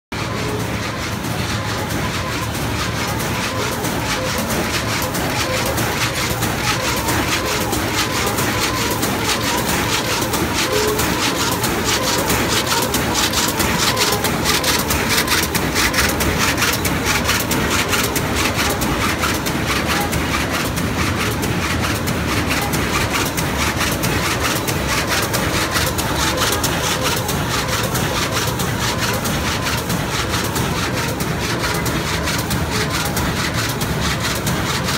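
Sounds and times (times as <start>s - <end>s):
weaving loom clattering: 0.1s - 34.9s.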